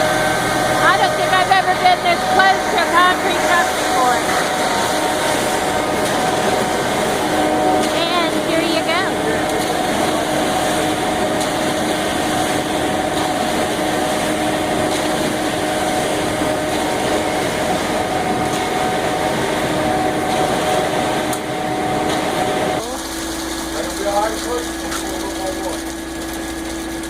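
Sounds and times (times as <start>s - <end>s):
concrete mixer truck droning: 0.0s - 27.0s.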